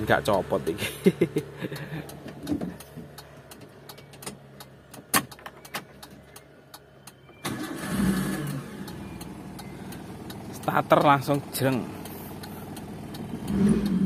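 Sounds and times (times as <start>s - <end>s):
car engine cranking and starting: 0.0s - 14.0s.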